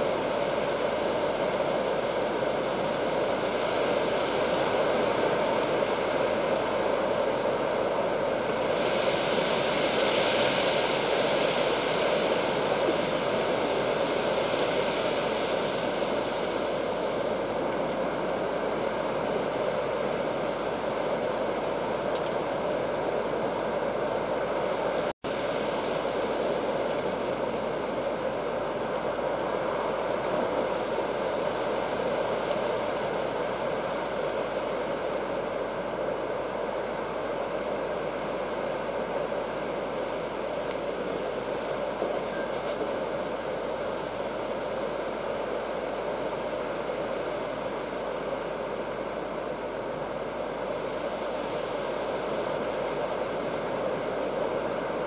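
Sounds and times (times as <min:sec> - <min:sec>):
rushing stormy weather: 0:00.0 - 0:55.0.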